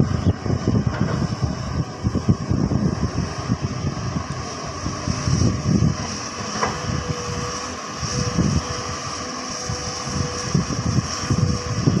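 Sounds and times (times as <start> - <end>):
excavator diesel engine running: 0.0 - 12.0
thin steady whine: 0.0 - 12.0
wind buffeting microphone: 0.0 - 12.0.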